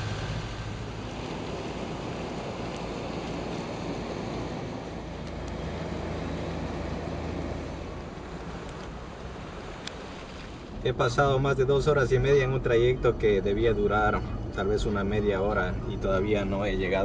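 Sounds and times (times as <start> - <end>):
slow road traffic: 0.0 - 17.0.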